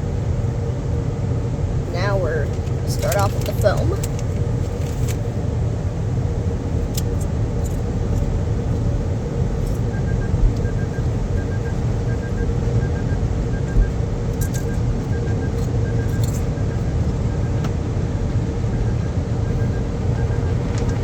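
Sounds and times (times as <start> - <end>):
car wash equipment rumble: 0.0 - 21.0
faint steady hum: 0.0 - 21.0.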